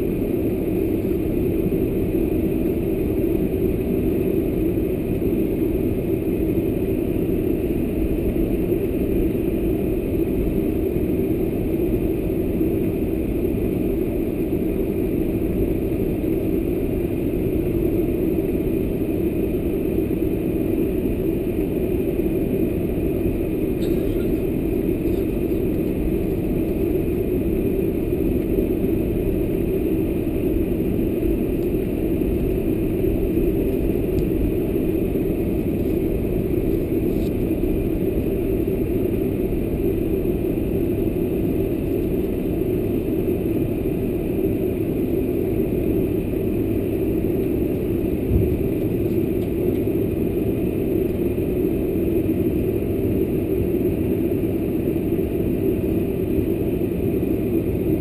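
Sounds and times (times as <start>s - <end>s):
cabin air system: 0.0s - 58.0s
jet engines humming: 0.0s - 58.0s.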